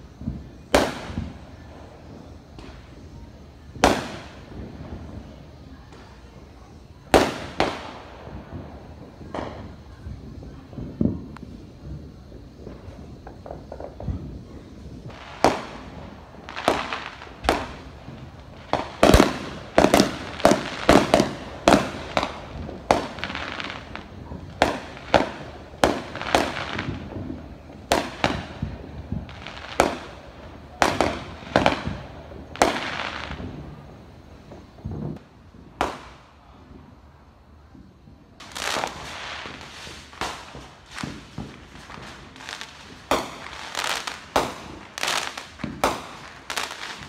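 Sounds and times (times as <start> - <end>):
fireworks banging: 0.0 - 47.0.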